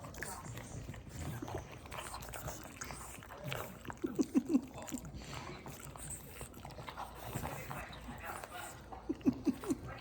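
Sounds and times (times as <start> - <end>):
pets chewing and tugging: 0.0 - 10.0.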